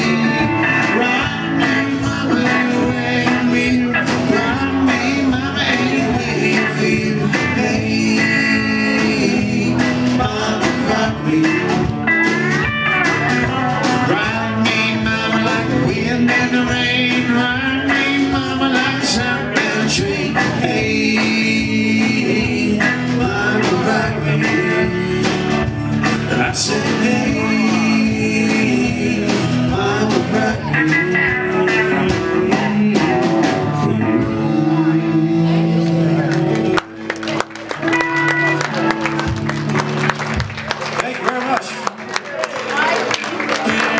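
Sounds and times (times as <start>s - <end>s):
country-rock band playing: 0.0s - 43.9s.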